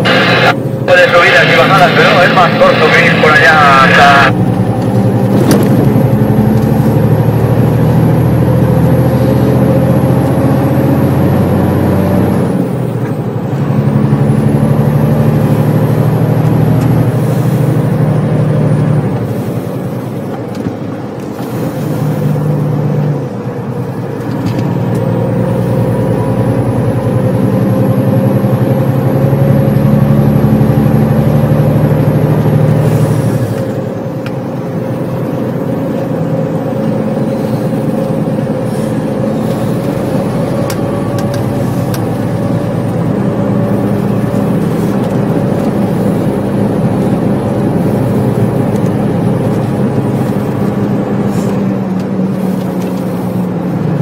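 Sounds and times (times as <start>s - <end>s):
truck diesel engine under load: 0.0s - 54.0s.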